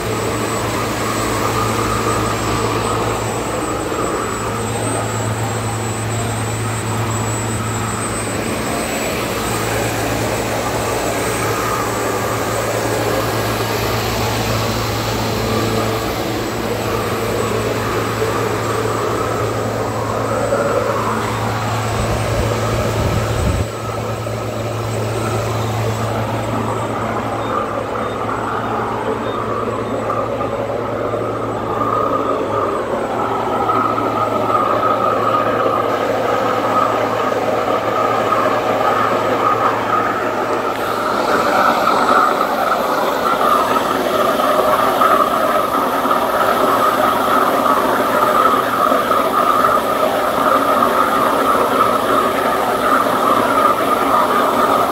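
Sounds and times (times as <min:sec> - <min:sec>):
low hum: 0:00.0 - 0:54.9
waterjet stream hissing: 0:00.0 - 0:54.9.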